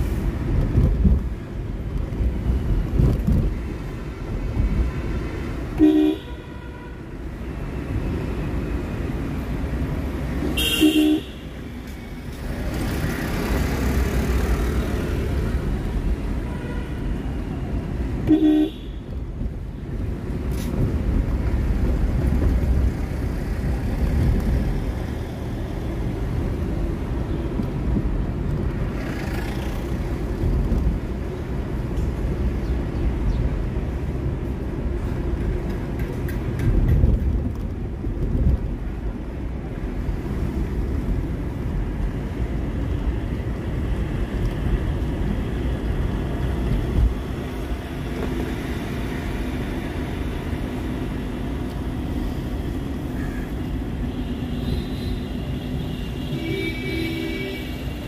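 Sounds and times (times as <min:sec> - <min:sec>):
car engine and tyre rumble: 0:00.0 - 0:58.0
passing traffic: 0:00.0 - 0:58.0.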